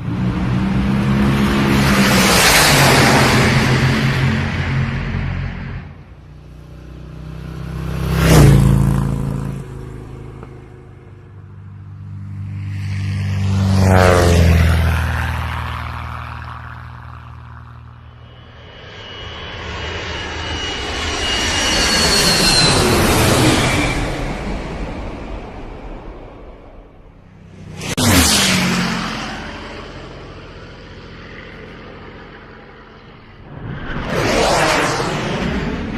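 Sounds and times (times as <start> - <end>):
vehicles passing by: 0.0 - 20.2, 20.8 - 35.9
high engine whine: 0.0 - 35.9.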